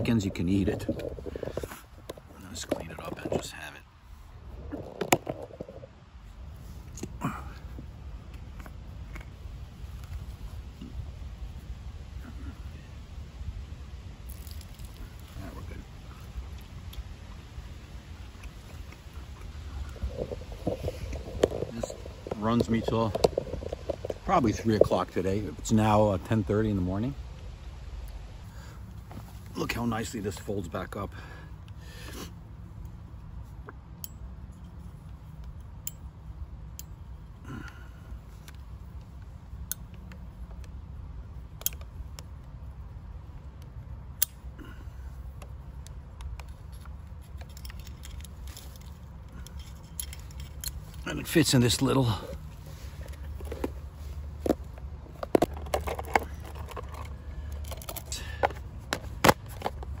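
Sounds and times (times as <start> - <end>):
steady low rumble: 0.0 - 60.0.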